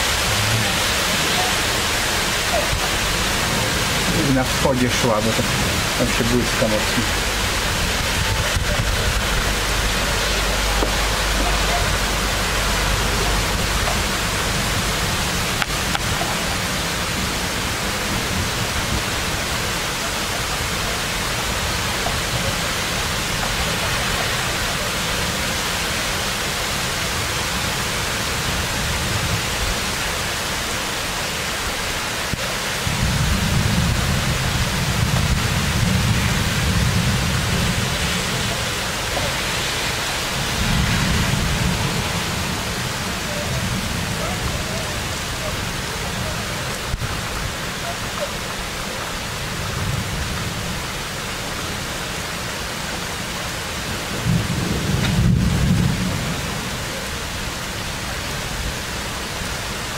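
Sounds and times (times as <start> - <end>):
thunder rumble: 0.0 - 29.9, 32.6 - 47.8, 53.8 - 58.8
heavy rain hissing: 0.0 - 59.9.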